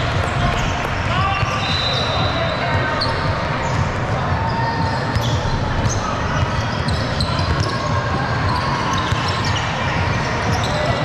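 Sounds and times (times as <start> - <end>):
crowd of voices: 0.0 - 11.0
shoe squeaks: 0.3 - 11.0.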